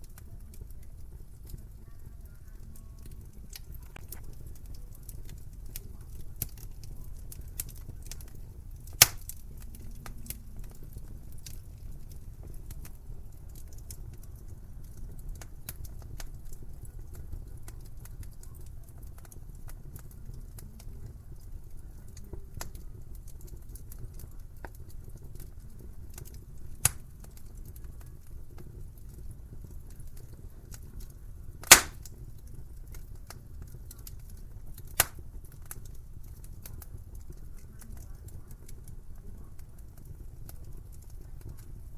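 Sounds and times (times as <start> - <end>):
sharp pops from fire: 0.0 - 41.9
wood fire crackling: 0.0 - 41.9.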